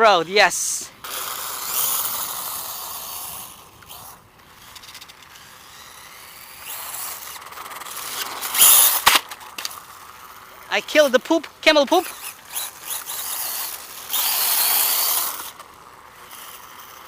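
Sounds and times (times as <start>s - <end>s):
electric rc bike motor running: 0.0s - 17.0s
tyre noise on ground: 1.0s - 17.0s.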